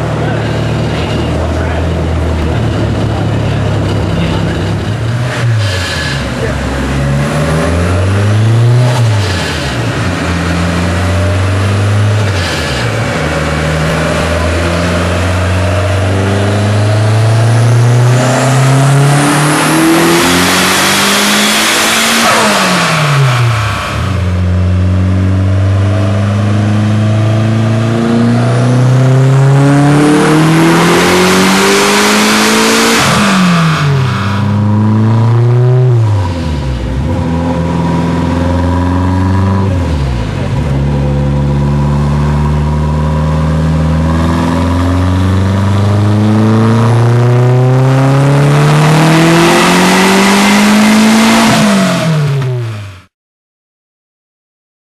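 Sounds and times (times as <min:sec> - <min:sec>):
turbocharged car engine revving: 0:00.0 - 0:53.1.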